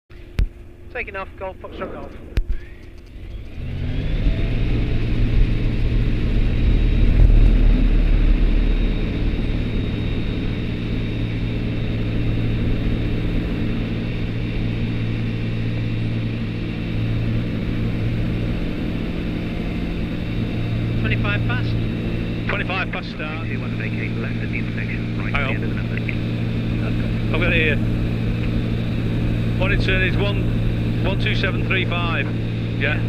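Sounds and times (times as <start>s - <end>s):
microlight engine and propeller: 0.1s - 33.0s.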